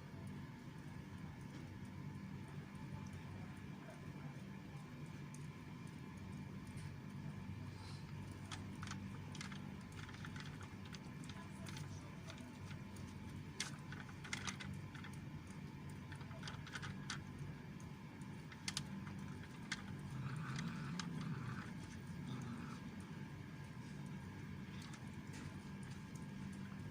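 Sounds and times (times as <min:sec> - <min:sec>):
cat chewing with crunching clicks: 0:00.1 - 0:26.9.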